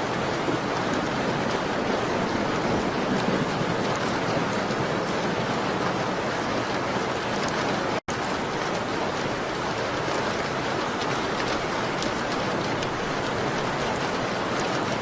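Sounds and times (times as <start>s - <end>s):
heavy rain on window glass: 0.0s - 15.0s.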